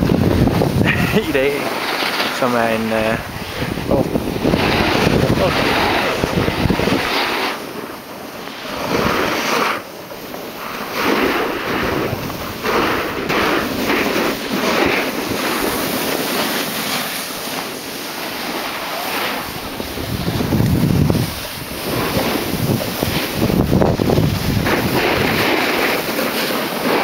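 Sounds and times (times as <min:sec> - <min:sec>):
ski edges scraping snow: 0:00.0 - 0:27.0
wind on microphone: 0:00.0 - 0:27.0.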